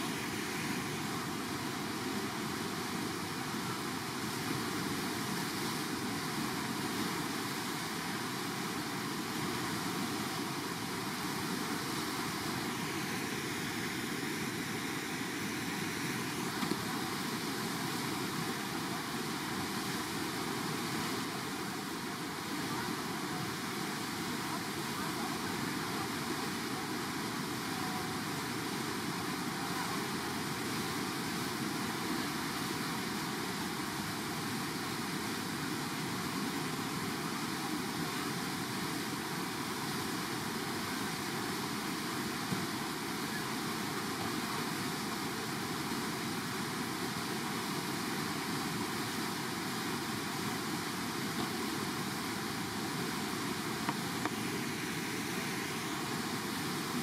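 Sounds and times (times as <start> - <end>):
rushing river wave: 0.0 - 57.0.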